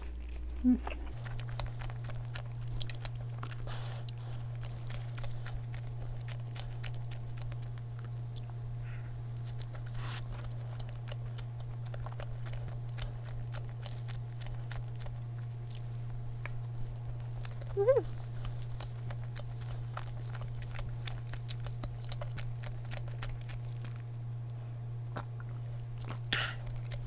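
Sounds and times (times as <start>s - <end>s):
chewing soft donut: 0.0s - 27.0s.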